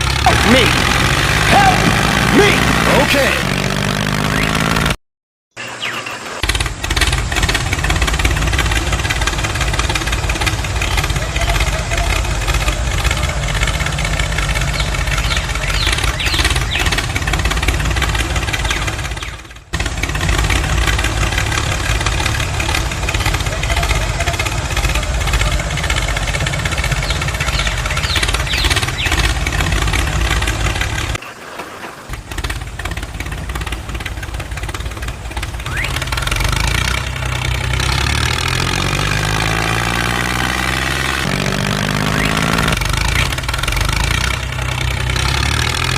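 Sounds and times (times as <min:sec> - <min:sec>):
miniature tractor engine running: 0:00.0 - 0:04.8, 0:05.8 - 0:31.2, 0:32.0 - 0:45.9.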